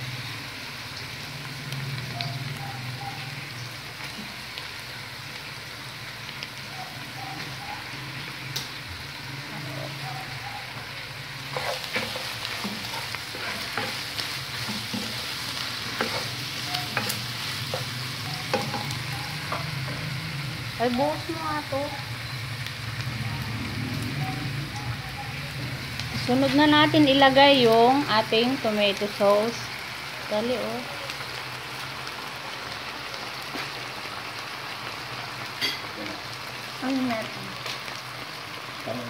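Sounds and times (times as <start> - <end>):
meat sizzling in a frying pan: 0.0 - 39.0.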